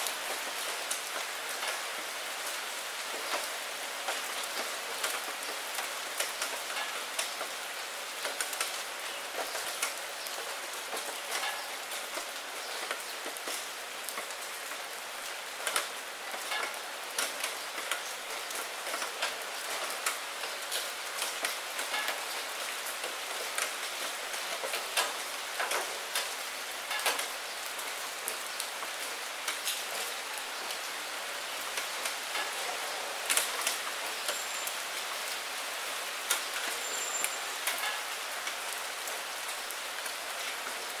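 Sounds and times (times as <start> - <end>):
rain falling into puddle: 0.0 - 41.0.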